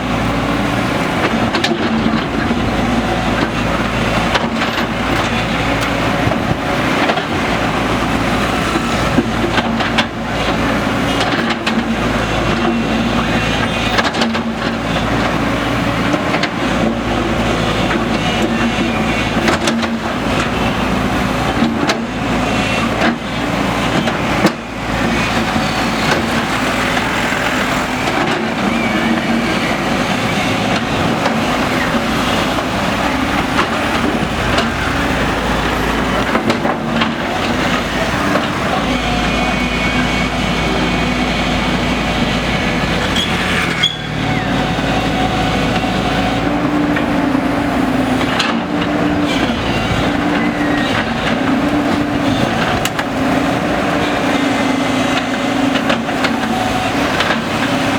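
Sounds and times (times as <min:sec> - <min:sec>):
diesel engine running under load: 0:00.0 - 0:57.9.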